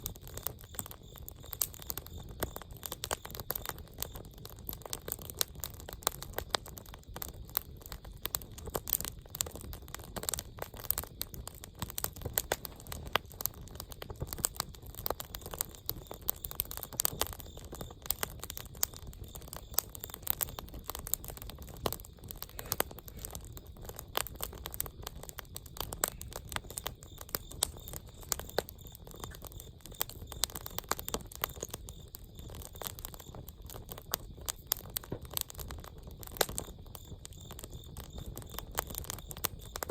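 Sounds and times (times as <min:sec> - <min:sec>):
campfire flames rushing: 0:00.0 - 0:39.9
logs crackling and popping: 0:00.0 - 0:39.9.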